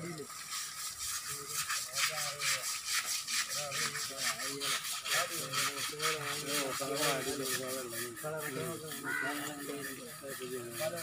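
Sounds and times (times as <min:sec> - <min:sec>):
scrubbing elephant hide: 0:00.0 - 0:11.0.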